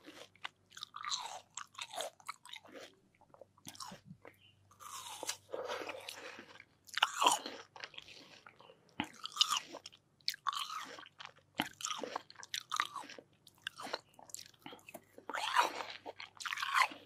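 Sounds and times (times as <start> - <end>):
chewing crisp watermelon: 0.0 - 17.0.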